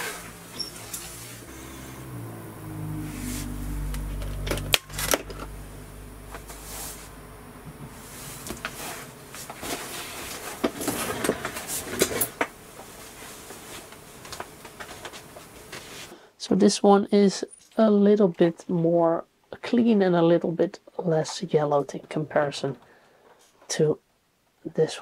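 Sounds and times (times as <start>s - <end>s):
low electrical hum: 0.0s - 24.9s.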